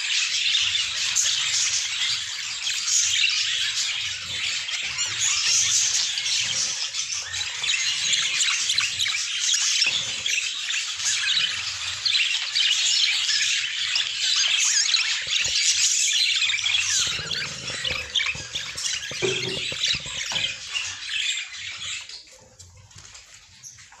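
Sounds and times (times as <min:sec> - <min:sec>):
budgerigars chattering: 0:00.4 - 0:22.1.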